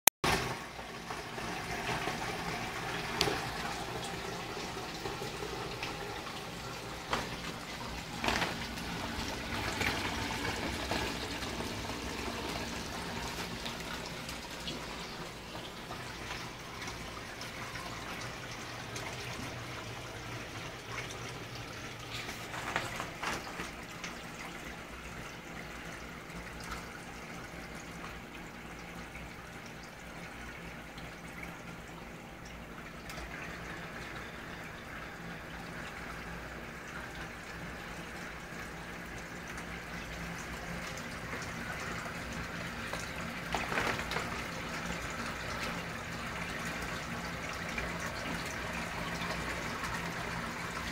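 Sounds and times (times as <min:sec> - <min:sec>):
water rushing in sump basin: 0:00.2 - 0:50.9
faint steady hum: 0:00.4 - 0:50.9.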